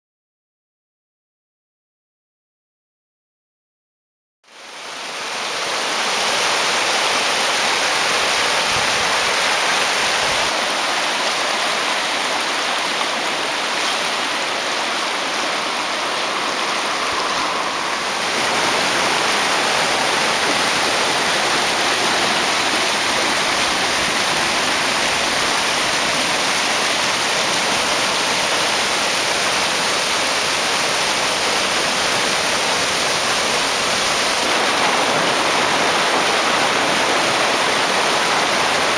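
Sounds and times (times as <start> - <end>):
whitewater rushing over boulders: 4.5 - 38.9.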